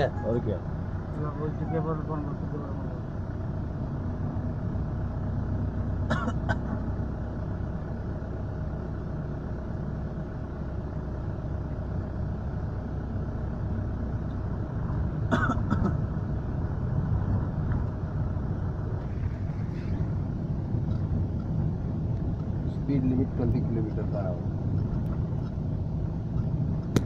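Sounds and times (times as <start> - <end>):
vehicle engine and road rumble: 0.0 - 27.0.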